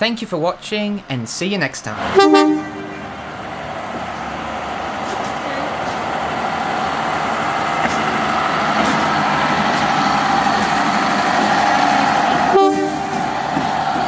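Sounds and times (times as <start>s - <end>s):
diesel railcar engine: 0.0s - 14.0s.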